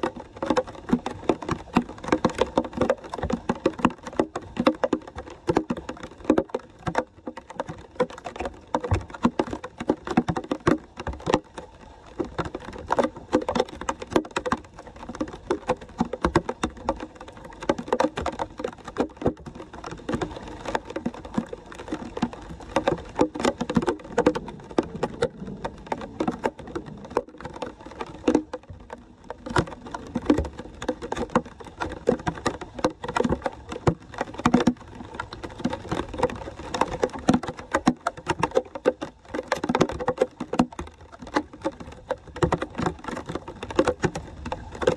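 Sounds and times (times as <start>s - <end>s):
water splashing into drain: 0.0s - 44.9s.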